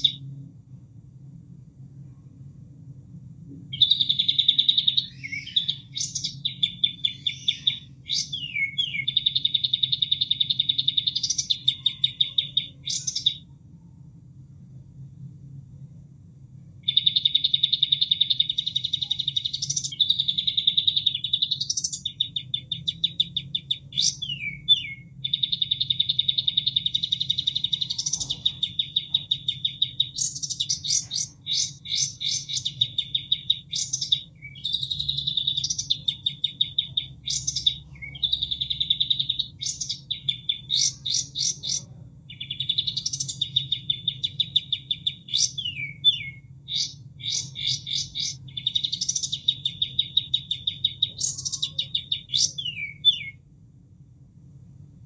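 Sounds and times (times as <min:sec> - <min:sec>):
songbird trilling and whistling: 0:00.0 - 0:00.3, 0:03.7 - 0:13.5, 0:16.8 - 0:53.4
faint low hum: 0:00.0 - 0:55.0.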